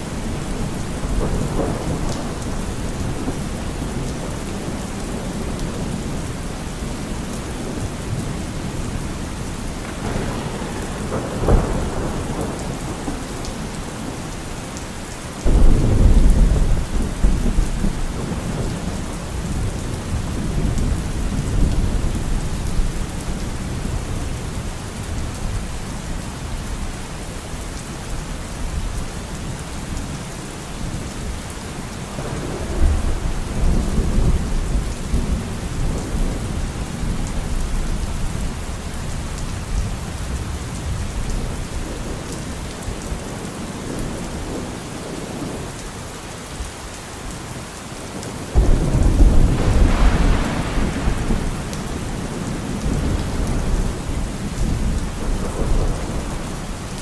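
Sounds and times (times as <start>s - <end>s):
thunder rumbling: 0.0s - 25.6s, 32.1s - 45.8s, 48.1s - 57.0s
rain falling: 0.0s - 57.0s.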